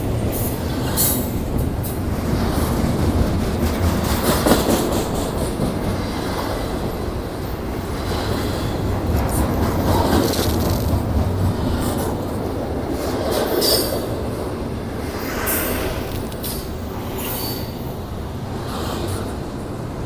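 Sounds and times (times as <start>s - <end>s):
freight train wheels rumbling on rail: 0.0s - 20.0s
train clicks and clanks: 0.0s - 20.0s.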